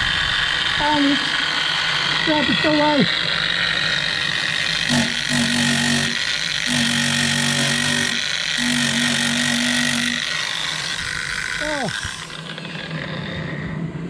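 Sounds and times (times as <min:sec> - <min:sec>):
electric stripping tool whining: 0:00.0 - 0:14.0
low buzz: 0:00.0 - 0:14.0.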